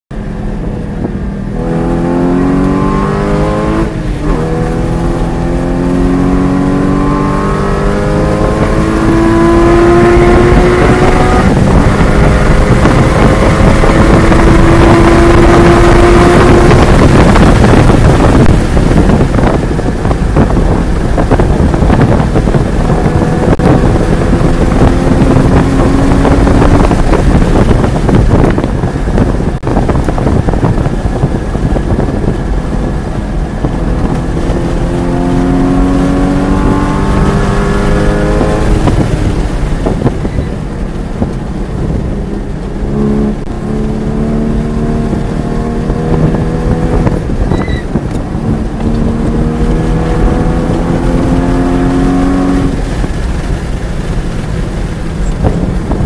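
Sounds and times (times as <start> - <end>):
wind and tyre noise: 0.1 - 56.0
car engine accelerating hard: 0.2 - 56.0.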